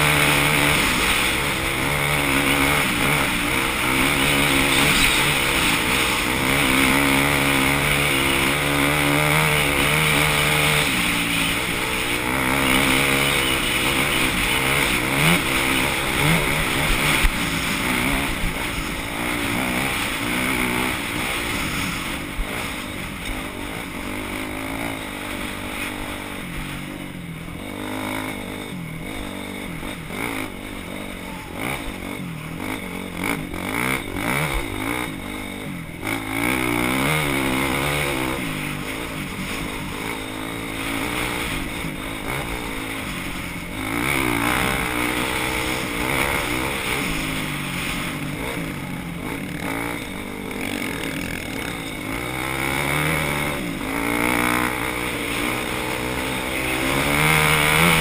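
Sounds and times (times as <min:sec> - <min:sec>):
off-road motorcycle engines revving: 0:00.0 - 0:58.0.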